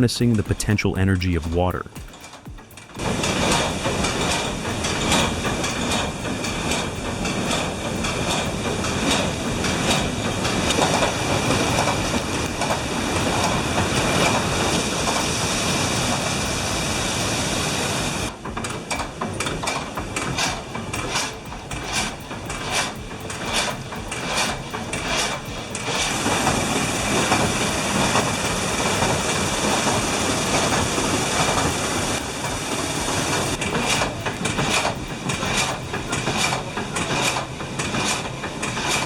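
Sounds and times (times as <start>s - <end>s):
water wheel knocking and clattering: 1.4s - 39.0s
water rushing onto water wheel: 2.0s - 39.0s.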